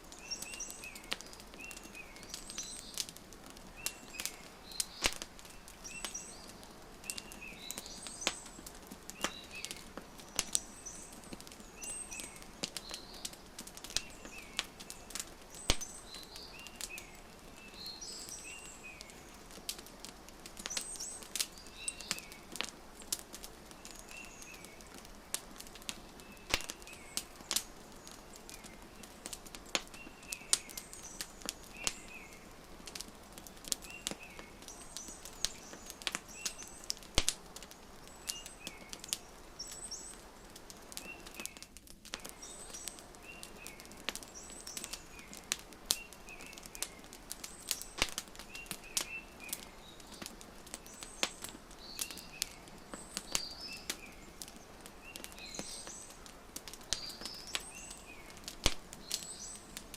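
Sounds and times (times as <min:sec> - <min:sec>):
small birds chirping: 0:00.0 - 0:59.9
wood fire crackling and popping: 0:00.0 - 0:59.9.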